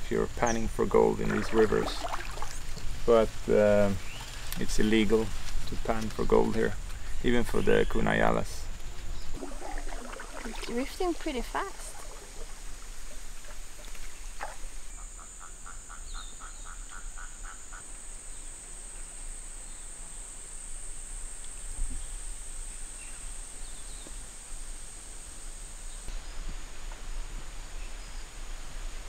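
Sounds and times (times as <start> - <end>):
high insect drone: 0.0 - 26.2.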